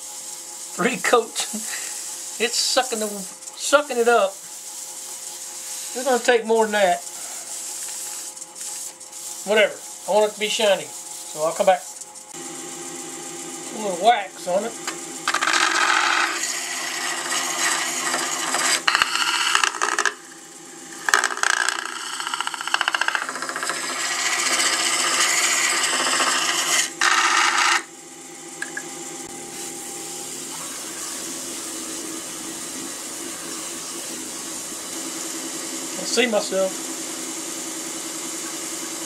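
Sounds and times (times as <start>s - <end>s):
wax rubbing on spinning wood: 0.0s - 12.3s, 13.7s - 27.8s, 30.7s - 39.0s
lathe humming: 0.0s - 38.9s.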